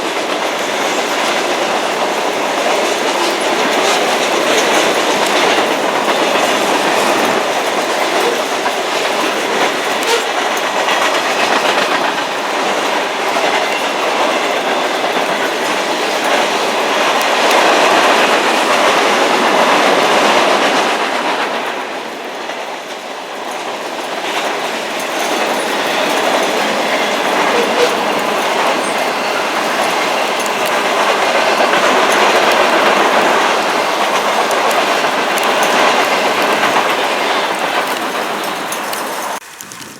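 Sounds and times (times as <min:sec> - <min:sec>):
clickety-clack over rail joints: 0:00.0 - 0:39.9
freight train wheels rumbling on rail: 0:00.0 - 0:39.9.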